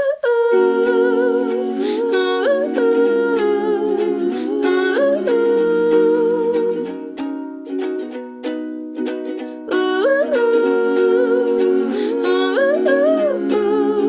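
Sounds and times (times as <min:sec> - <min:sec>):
voices humming in harmony: 0:00.3 - 0:07.8, 0:09.7 - 0:14.0.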